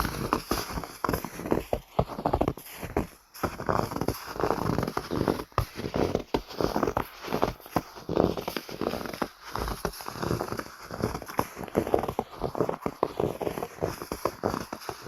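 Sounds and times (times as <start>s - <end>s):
footsteps crunching through snow: 0.0s - 15.0s.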